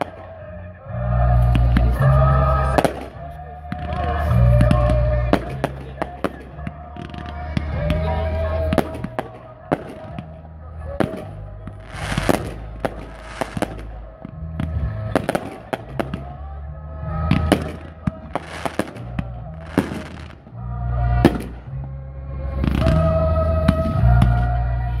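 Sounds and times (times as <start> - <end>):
fireworks bangs: 0.0 - 0.4, 1.4 - 16.5, 17.1 - 20.5, 21.2 - 21.7, 22.6 - 24.6
fireworks crackling: 0.0 - 0.5, 1.3 - 16.4, 17.0 - 20.6, 22.6 - 24.7.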